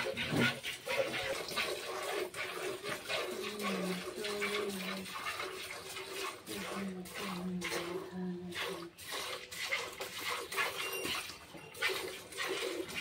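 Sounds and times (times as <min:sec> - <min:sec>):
milk squirting into steel pail: 0:00.0 - 0:13.0.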